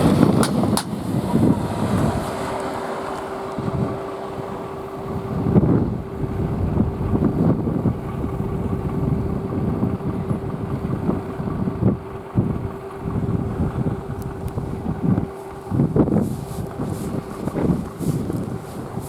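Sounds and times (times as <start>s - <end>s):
railcar engine drone: 0.0s - 19.0s
wind buffeting microphone: 0.0s - 19.0s.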